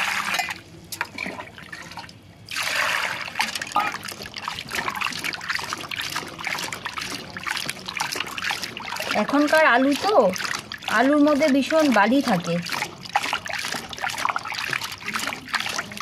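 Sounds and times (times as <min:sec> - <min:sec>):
water trickling and splashing: 0:00.0 - 0:16.0.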